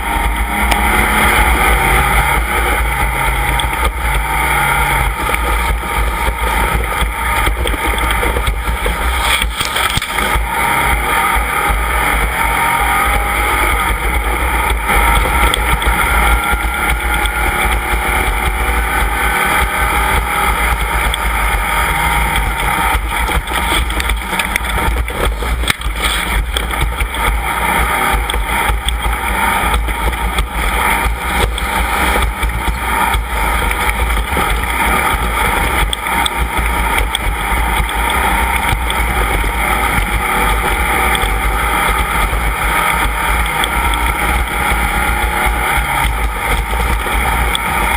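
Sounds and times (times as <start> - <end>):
knocks and rattles: 0.0 - 47.9
race vehicle engine running: 0.0 - 47.9.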